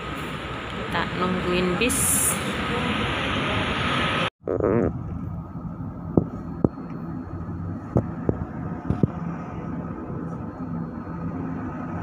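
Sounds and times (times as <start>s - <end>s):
engine and road hum: 0.0s - 12.0s
loud roadside traffic: 0.0s - 12.0s.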